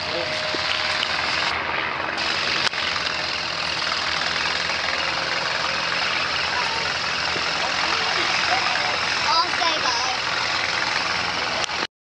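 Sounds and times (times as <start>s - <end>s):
small plane engine climbing: 0.0s - 11.9s.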